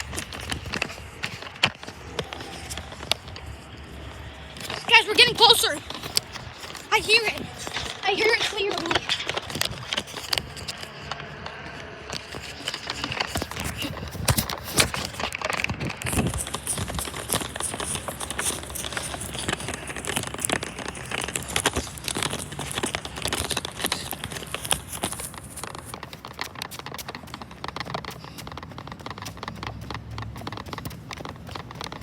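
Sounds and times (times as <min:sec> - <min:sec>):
footsteps: 0:00.0 - 0:32.0
microphone handling noise: 0:00.0 - 0:32.0.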